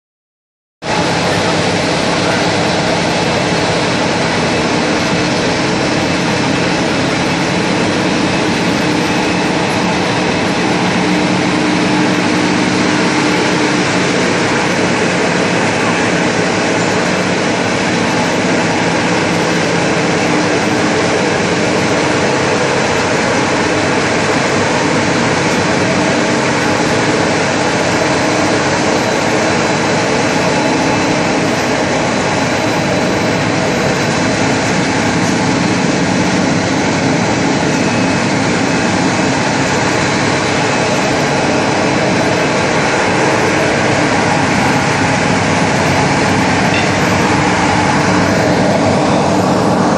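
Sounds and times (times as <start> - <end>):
loud machinery noise: 0.8 - 49.9.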